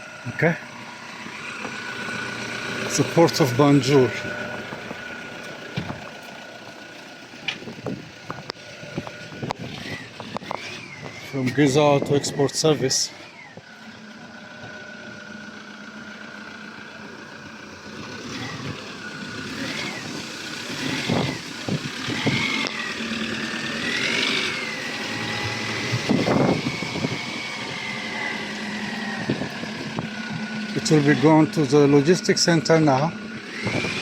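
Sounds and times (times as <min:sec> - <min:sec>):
motor vehicle engine whining: 0:00.0 - 0:34.0.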